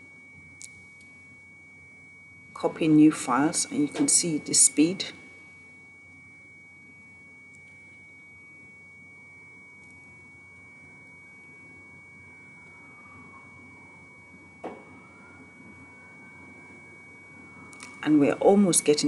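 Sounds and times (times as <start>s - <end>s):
faint high-pitched tone: 0.0s - 19.0s.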